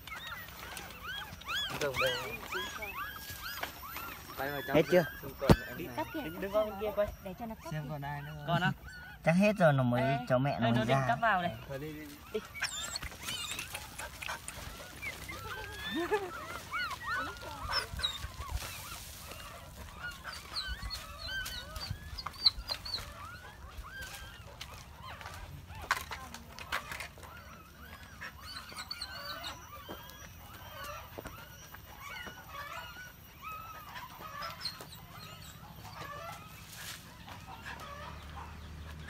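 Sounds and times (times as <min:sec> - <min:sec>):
puppies squealing and whimpering: 0:00.0 - 0:39.0.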